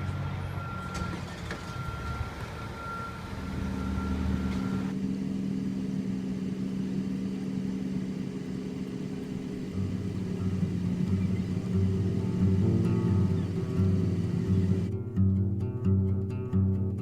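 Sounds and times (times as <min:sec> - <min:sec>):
airliner cabin engine hum: 0:00.0 - 0:15.0.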